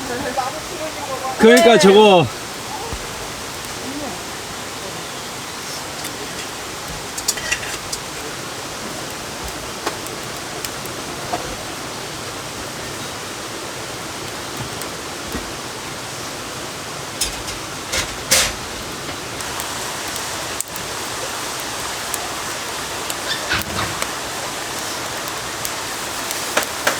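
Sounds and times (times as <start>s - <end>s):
rushing water: 0.0s - 26.9s.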